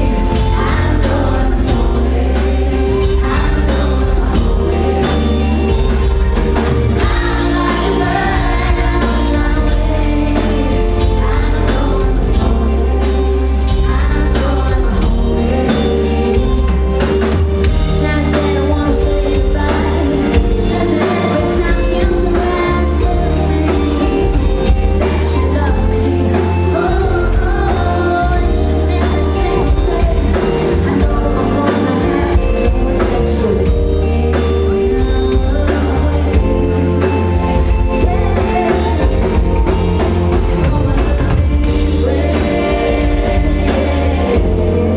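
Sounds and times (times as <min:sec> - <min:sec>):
live band with heavy bass: 0:00.0 - 0:44.9
person singing: 0:00.0 - 0:44.9
steady drum beat: 0:00.0 - 0:44.9.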